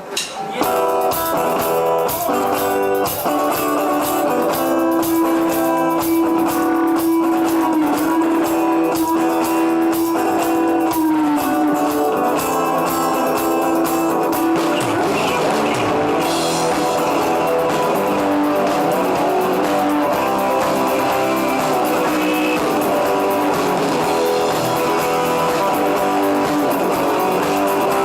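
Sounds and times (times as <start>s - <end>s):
rock guitars: 0.0s - 28.0s
drum beat: 0.2s - 28.0s.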